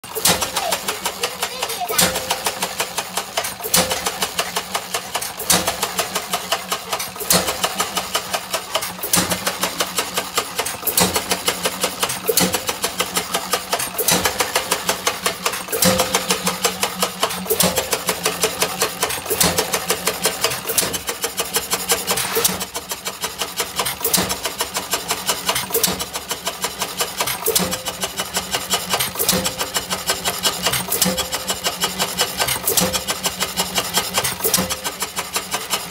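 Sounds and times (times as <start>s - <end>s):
mechanical clatter: 0.0s - 35.9s
stationary engine running: 0.0s - 35.9s.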